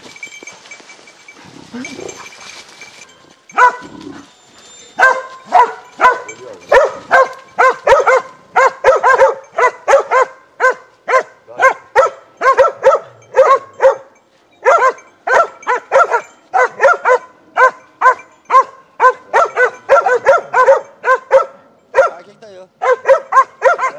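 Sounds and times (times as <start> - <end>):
dog barking: 3.5 - 3.9, 4.9 - 23.9.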